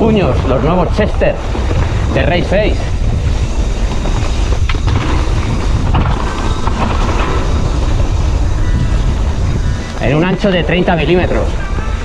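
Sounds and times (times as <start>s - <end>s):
bike rattling: 0.0s - 12.0s
bike tyres rumbling on dirt: 0.0s - 12.0s.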